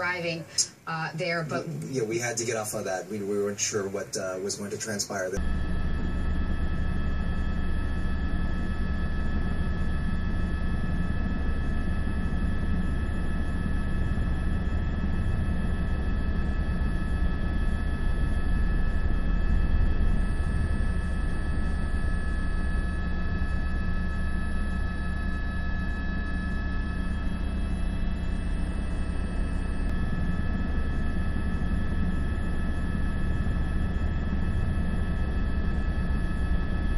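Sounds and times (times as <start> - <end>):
helicopter engine and rotor: 5.4 - 36.9.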